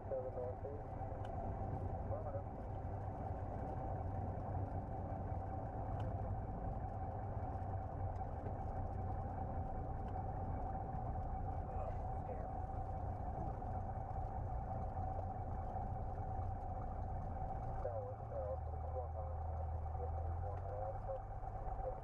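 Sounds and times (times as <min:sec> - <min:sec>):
propeller airplane engine idling: 0:00.0 - 0:22.0.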